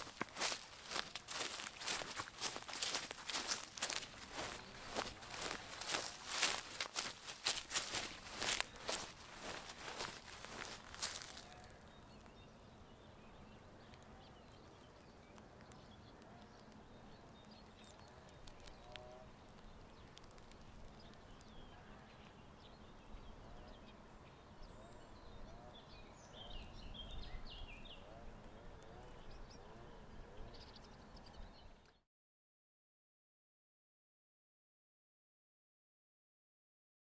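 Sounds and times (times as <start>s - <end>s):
low bird calls: 0.0s - 31.9s.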